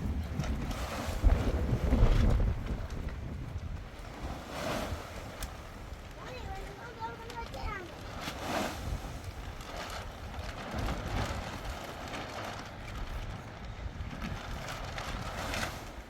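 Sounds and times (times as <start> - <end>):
wind gusting against microphone: 0.0 - 16.0.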